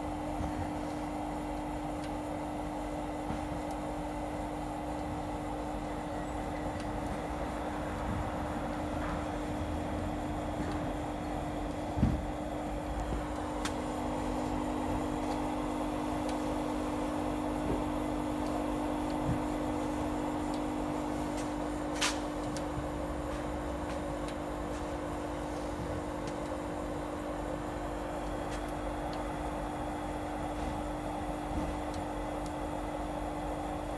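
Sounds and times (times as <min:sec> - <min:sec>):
heater humming with fan rush: 0:00.0 - 0:33.9.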